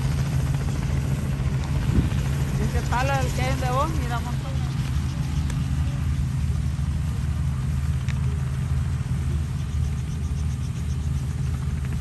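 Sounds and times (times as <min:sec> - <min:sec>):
helicopter engine: 0:00.0 - 0:12.0
helicopter rotor beat: 0:00.0 - 0:12.0.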